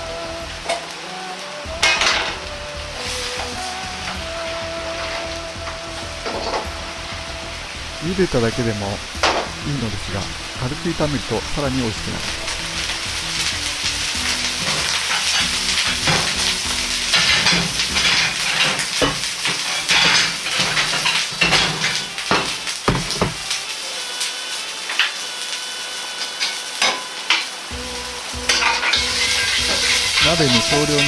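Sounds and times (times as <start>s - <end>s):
wok sizzling and popping: 0.0s - 31.0s.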